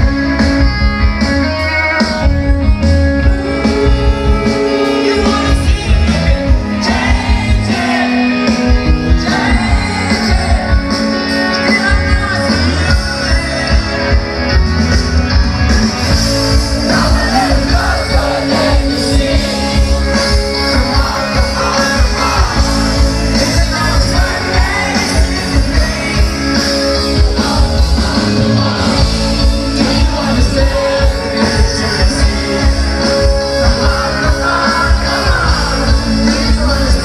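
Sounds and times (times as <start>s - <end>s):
rock band playing live: 0.0s - 37.0s
man singing: 3.4s - 14.0s, 16.4s - 37.0s.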